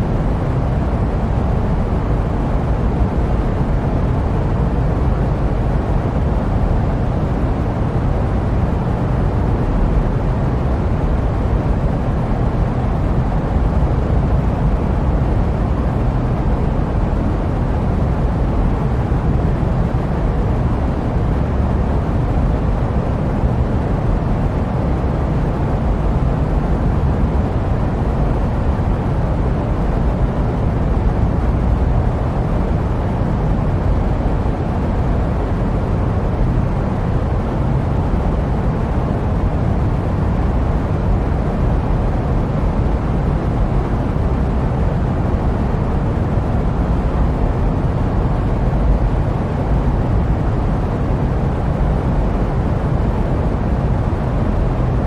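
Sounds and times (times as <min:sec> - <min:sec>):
jet airplane low rumble: 0:00.0 - 0:55.0.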